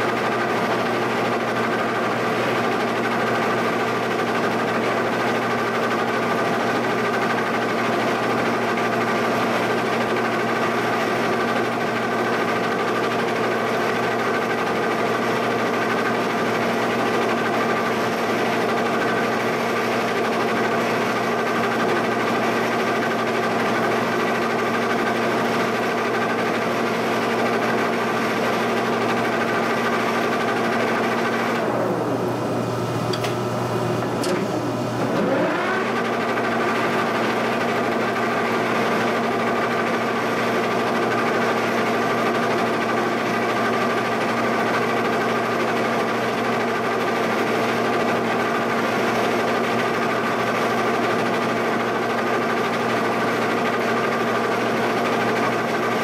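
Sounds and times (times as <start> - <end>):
milling machine humming: 0.0 - 56.0.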